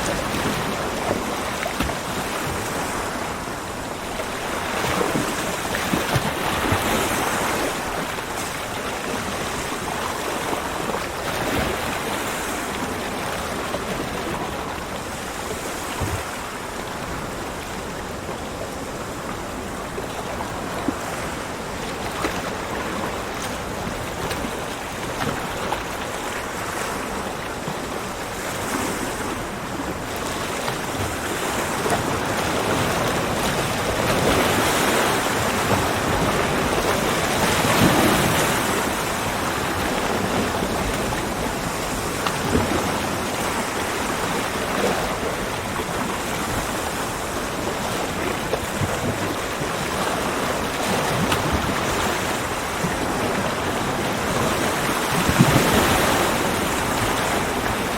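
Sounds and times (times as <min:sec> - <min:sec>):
ocean waves breaking on beach: 0:00.0 - 0:57.9.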